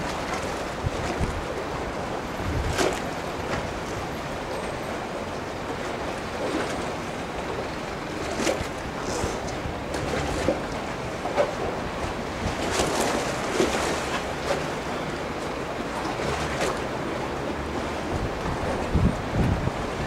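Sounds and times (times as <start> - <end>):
water lapping: 0.0 - 20.0
wind: 0.0 - 20.0.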